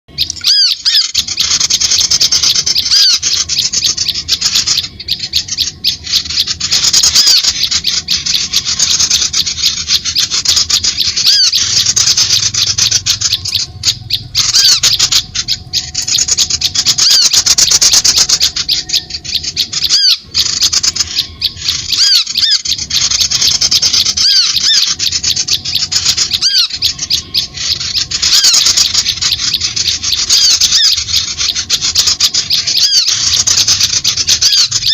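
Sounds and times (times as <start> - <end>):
birds chattering high-pitched: 0.1 - 34.9.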